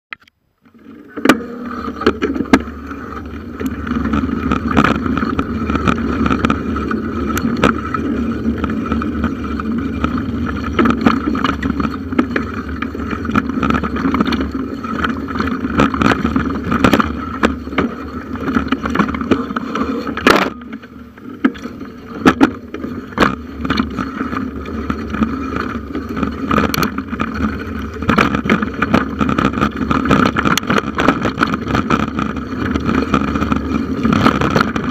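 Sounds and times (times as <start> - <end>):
bicycle tyre and frame rumble: 0.6 - 34.9.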